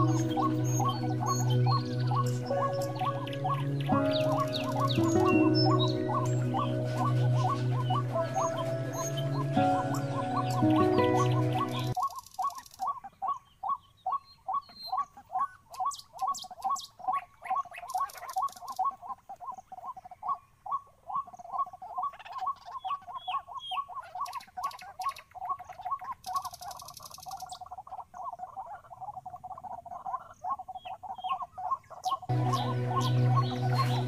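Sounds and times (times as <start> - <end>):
birds chirping and trilling: 0.0 - 34.0
waterhen calling: 0.0 - 34.0.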